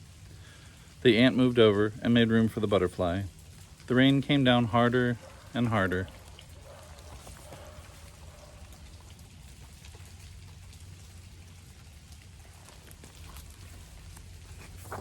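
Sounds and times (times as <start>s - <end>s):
light drip ticks: 0.0s - 14.6s
faint rain patter: 0.0s - 15.0s.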